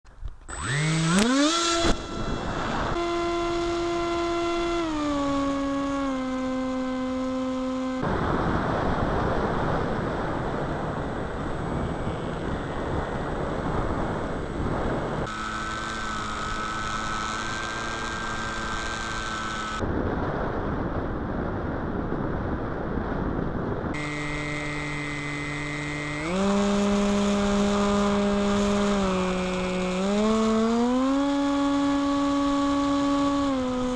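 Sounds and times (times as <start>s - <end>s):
model plane motor whine: 0.4s - 19.8s, 23.9s - 33.9s
loud wind rush: 0.6s - 7.2s, 8.0s - 33.9s.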